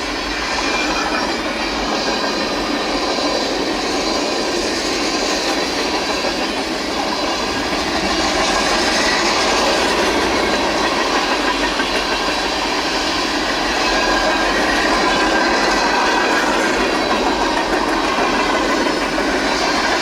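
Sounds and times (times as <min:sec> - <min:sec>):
faint high wheel squeal: 0:00.0 - 0:20.0
freight train wheels rumbling: 0:00.0 - 0:20.0.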